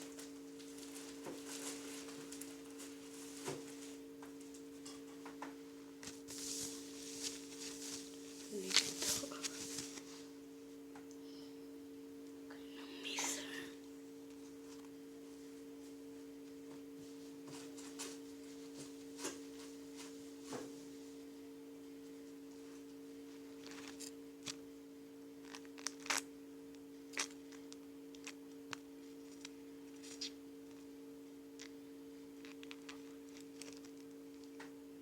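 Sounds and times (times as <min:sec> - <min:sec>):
low two-tone hum: 0:00.0 - 0:35.0.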